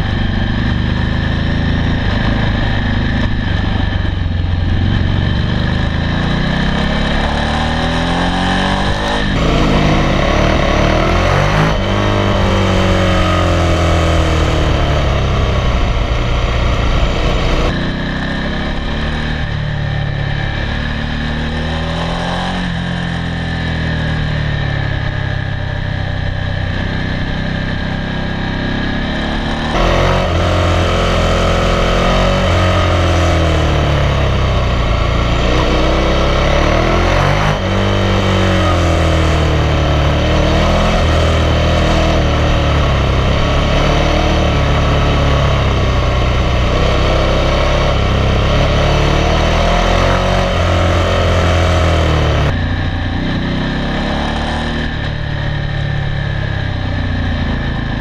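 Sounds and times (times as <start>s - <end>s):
motorcycle engines accelerating: 0.0s - 58.0s.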